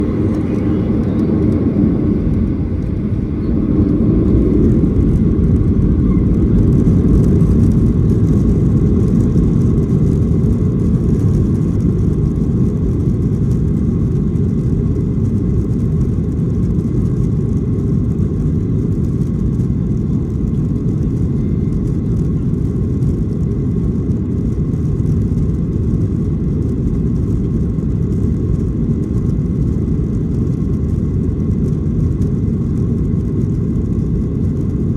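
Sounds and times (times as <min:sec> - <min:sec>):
jet engine and cabin rumble: 0:00.0 - 0:34.9.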